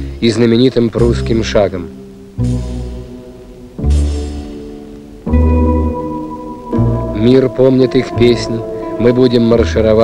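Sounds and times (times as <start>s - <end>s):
film score chords with deep bass: 1.0s - 10.0s.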